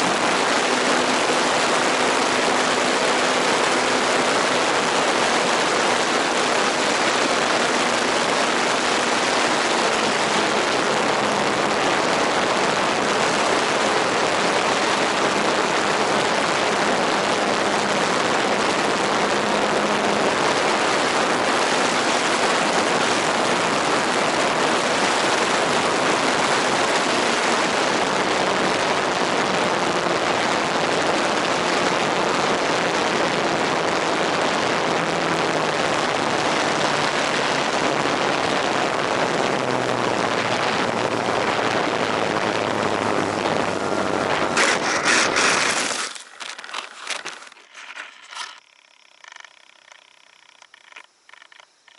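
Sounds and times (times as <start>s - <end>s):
model airplane engine running: 0.0s - 51.9s.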